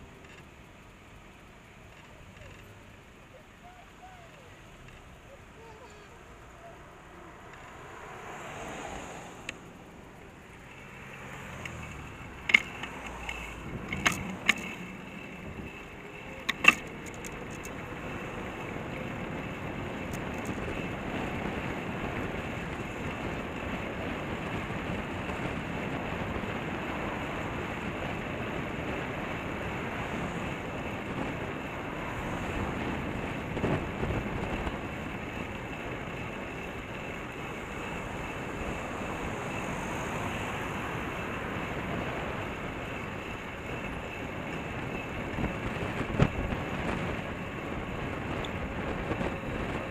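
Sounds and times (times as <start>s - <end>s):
bicycle tyre and road noise: 0.0s - 49.9s
wind rushing over microphone: 7.7s - 49.9s.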